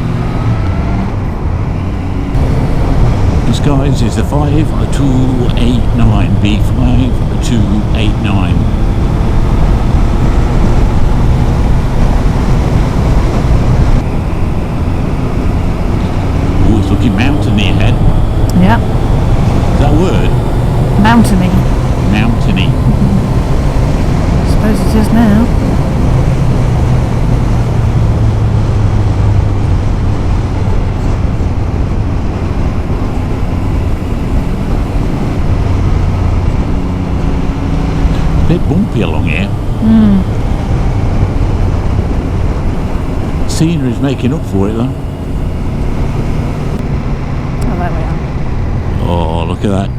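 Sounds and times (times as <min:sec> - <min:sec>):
wind rushing over microphone: 0:00.0 - 0:49.1
motorcycle engine running: 0:01.1 - 0:49.9.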